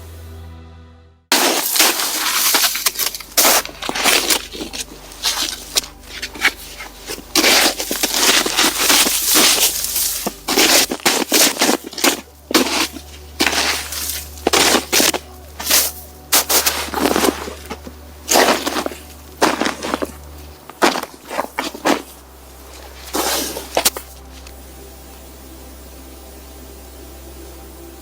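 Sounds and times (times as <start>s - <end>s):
footsteps crunching through snow: 1.3s - 24.6s.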